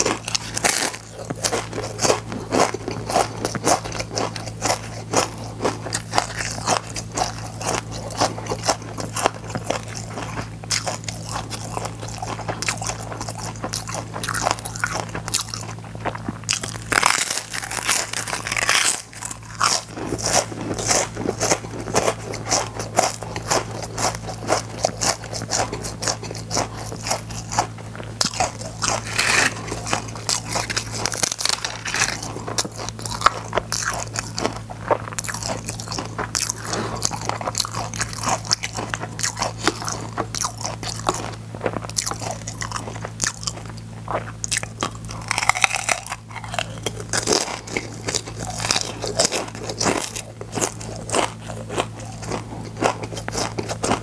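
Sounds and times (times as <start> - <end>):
crunching and chewing crisps: 0.0 - 54.0
steady low hum: 0.0 - 54.0.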